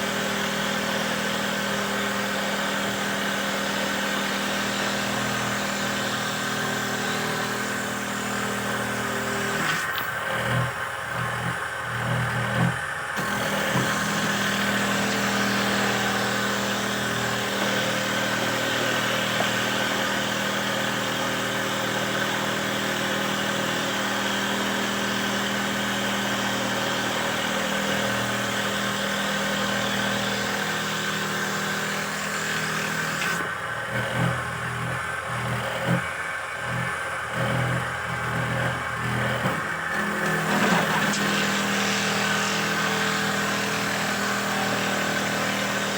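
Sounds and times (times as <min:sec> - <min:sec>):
machine motor hum: 0:00.0 - 0:45.9
uneven pulsing machine noise: 0:01.8 - 0:22.5, 0:24.8 - 0:45.9.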